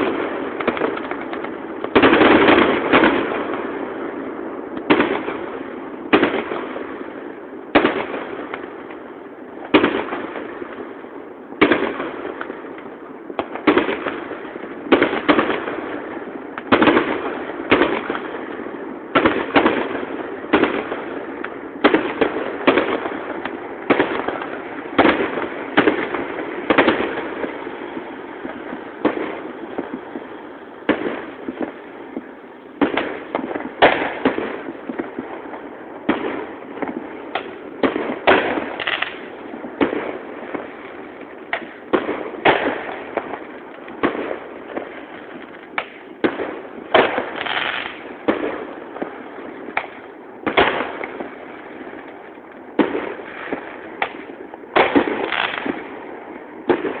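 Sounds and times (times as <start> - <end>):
distant fireworks crackling: 0.0 - 57.0
fireworks bangs and pops: 0.0 - 57.0.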